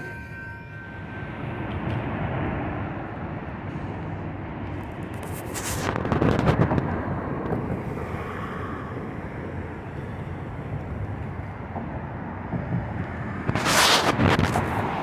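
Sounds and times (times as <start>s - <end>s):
wind buffeting microphone: 1.2s - 15.0s.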